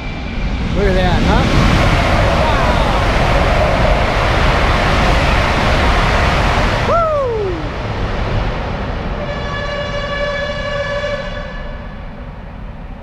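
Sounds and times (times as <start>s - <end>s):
high-speed train rushing past: 0.0s - 13.0s.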